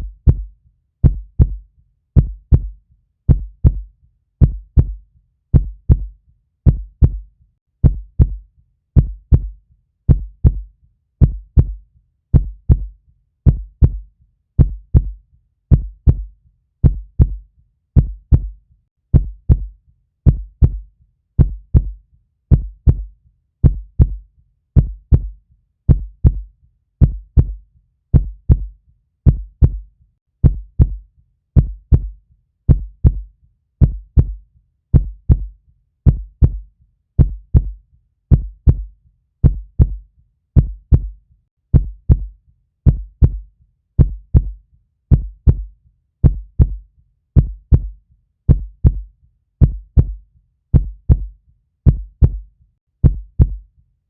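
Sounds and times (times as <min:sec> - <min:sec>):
slow heartbeat thumps: 0:00.0 - 0:01.6, 0:02.2 - 0:08.4, 0:09.0 - 0:17.4, 0:18.0 - 0:24.2, 0:24.8 - 0:31.0, 0:31.6 - 0:40.0, 0:40.6 - 0:46.8, 0:47.4 - 0:53.6.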